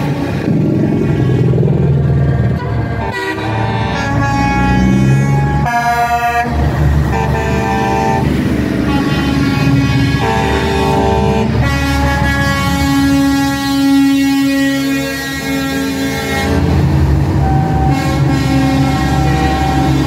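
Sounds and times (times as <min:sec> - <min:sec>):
diesel engines rumbling: 0:00.0 - 0:20.0
truck air horn blasts: 0:02.6 - 0:20.0.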